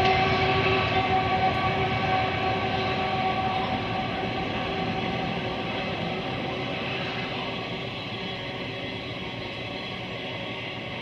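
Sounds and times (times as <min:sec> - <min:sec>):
distant freight train rumble: 0:00.0 - 0:11.0.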